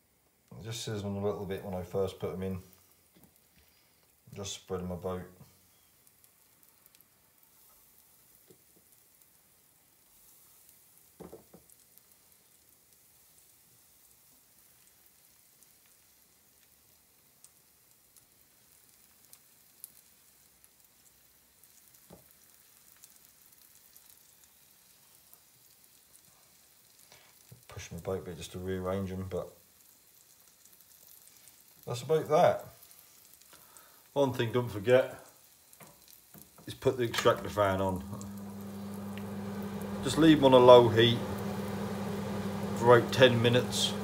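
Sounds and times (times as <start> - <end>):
fish roe sizzling in oil: 5.6 - 44.0.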